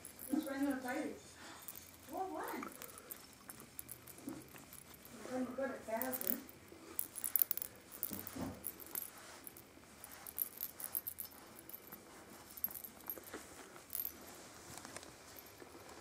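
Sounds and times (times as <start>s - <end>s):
small collar bell jingling: 0.0s - 16.0s.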